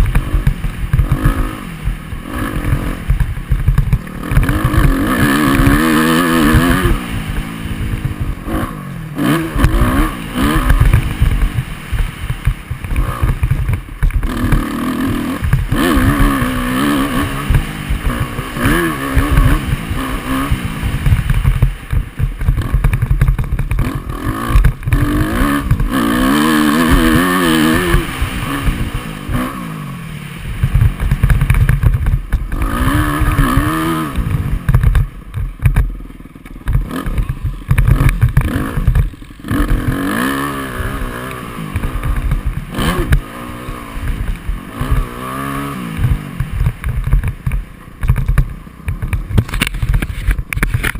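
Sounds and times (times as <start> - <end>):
dirt bike engine revving: 0.0 - 50.9
rough low rumble: 0.0 - 50.9.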